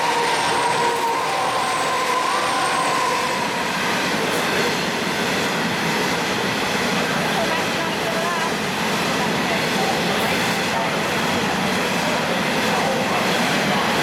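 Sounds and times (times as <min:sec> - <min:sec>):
diesel locomotive passing: 0:00.0 - 0:14.0.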